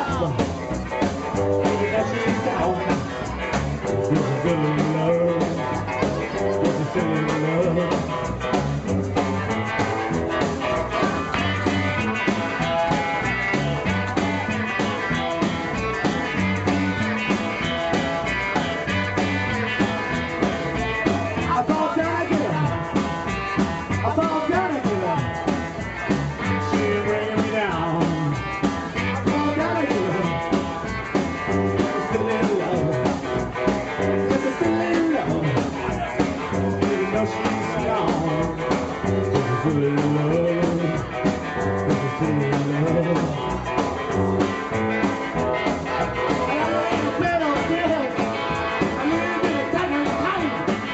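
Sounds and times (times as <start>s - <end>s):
electric guitar: 0.0s - 50.9s
rock band playing live: 0.0s - 50.9s.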